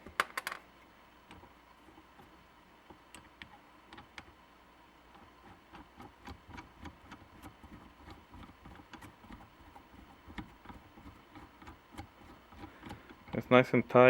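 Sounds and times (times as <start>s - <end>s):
knob screwing clicks and scrapes: 1.3s - 4.4s, 5.1s - 13.5s.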